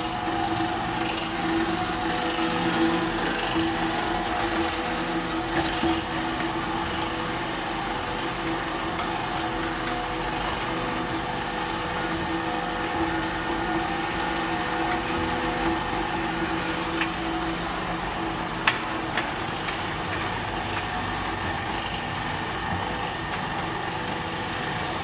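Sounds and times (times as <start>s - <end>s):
saw machine humming with whine: 0.0s - 25.0s.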